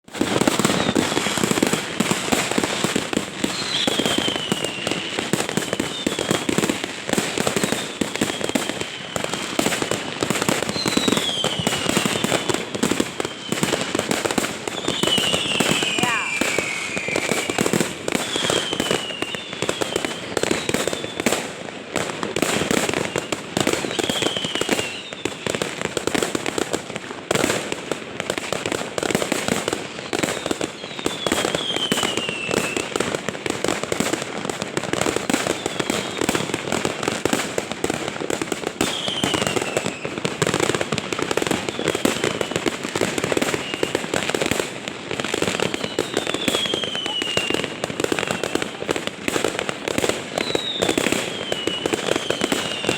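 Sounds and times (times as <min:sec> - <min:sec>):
fireworks crackling and popping: 0:00.0 - 0:52.9
falling firework whistles: 0:00.1 - 0:26.4, 0:29.4 - 0:34.3, 0:34.9 - 0:52.9.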